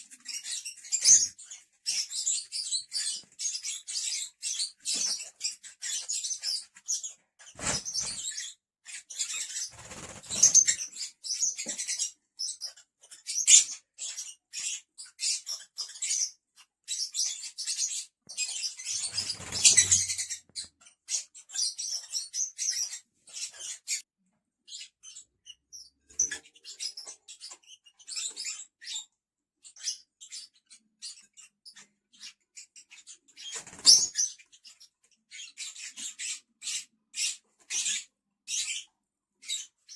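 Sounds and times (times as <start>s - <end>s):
lovebirds chattering: 0.0s - 39.9s.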